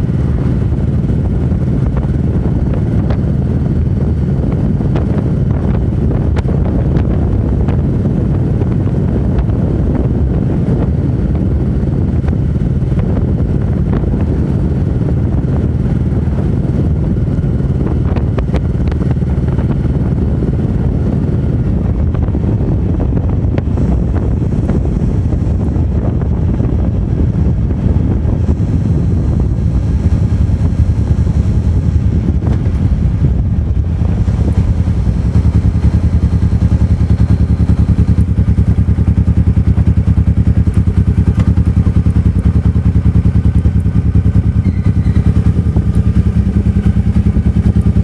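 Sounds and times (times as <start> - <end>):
motorcycle engine droning: 0.0 - 48.0
wind buffeting microphone: 0.0 - 48.0.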